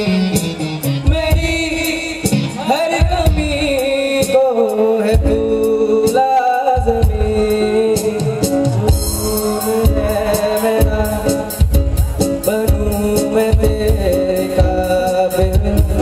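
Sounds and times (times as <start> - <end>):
keyboards: 0.0 - 16.0
man singing: 0.0 - 16.0
steady drum beat: 0.0 - 16.0.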